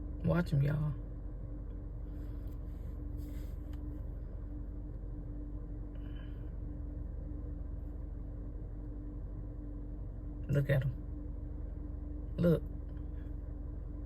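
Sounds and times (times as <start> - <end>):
faint steady tone: 0.0 - 14.0
low hum inside car cabin: 0.0 - 14.0.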